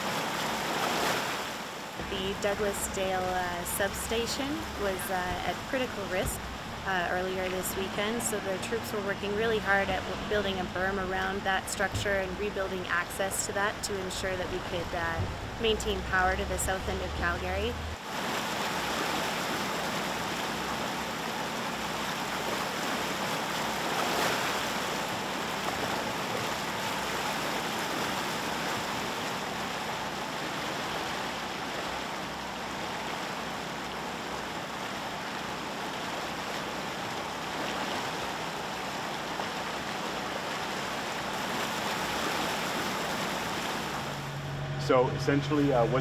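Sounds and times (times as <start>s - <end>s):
fast-flowing water rushing: 0.0s - 11.6s, 17.8s - 44.4s.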